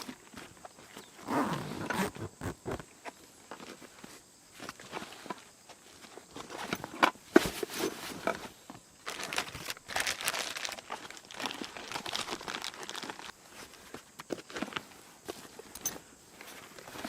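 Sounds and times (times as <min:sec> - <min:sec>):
crinkling and rustling: 0:00.0 - 0:17.0.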